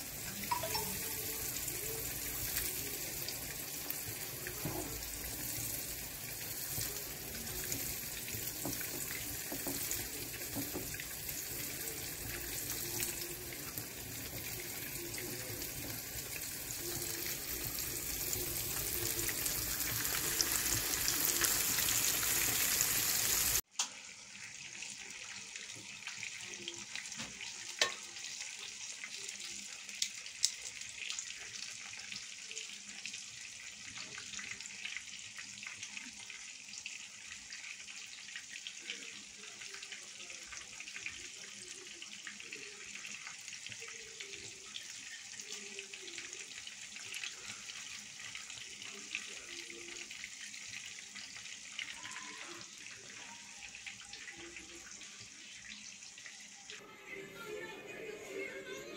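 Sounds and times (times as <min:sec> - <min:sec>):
fish frying in hot oil: 0:00.0 - 0:56.8.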